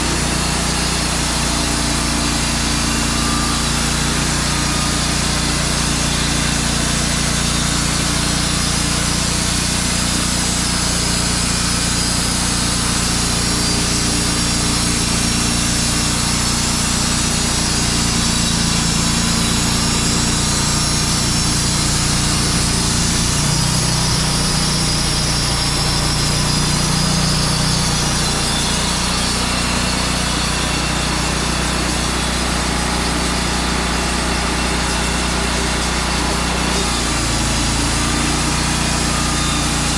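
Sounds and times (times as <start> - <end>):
saw blade hissing through log: 0.0 - 39.9
sawmill engine under load: 0.0 - 39.9.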